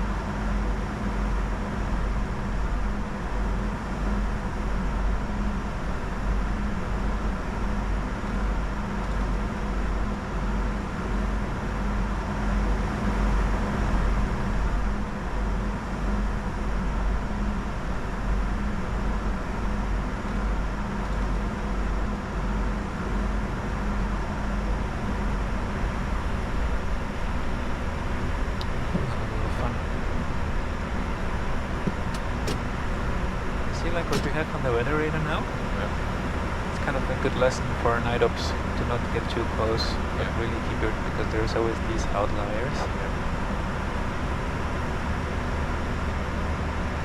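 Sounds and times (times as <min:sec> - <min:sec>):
deep low rumble: 0:00.0 - 0:47.0
faint hums of aircraft systems: 0:00.0 - 0:47.0.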